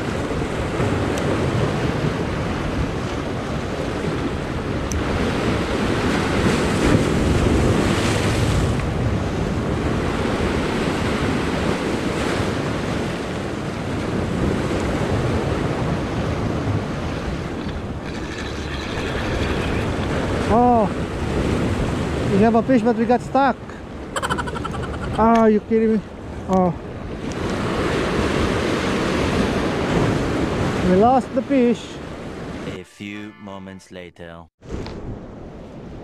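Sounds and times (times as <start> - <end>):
wind buffeting microphone: 0.0 - 32.7.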